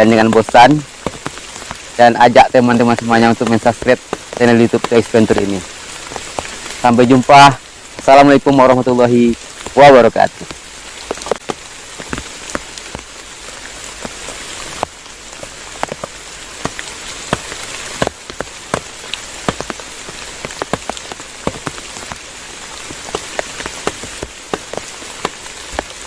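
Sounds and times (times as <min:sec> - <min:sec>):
heavy rain falling: 0:00.0 - 0:26.0
sharp raindrop strikes: 0:00.0 - 0:26.0.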